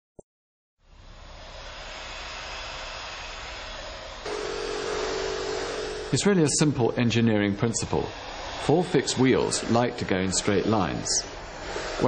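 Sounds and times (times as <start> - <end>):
vacuum cleaner running: 0.9 - 12.0.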